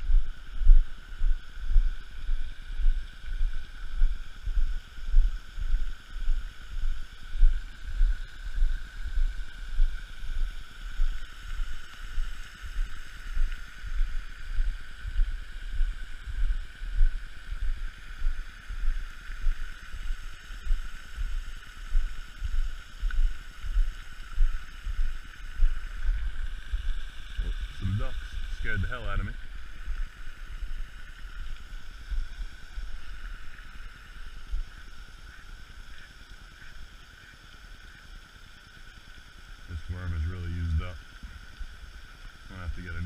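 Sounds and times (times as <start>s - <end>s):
faint high-pitched drone: 0.0s - 43.0s.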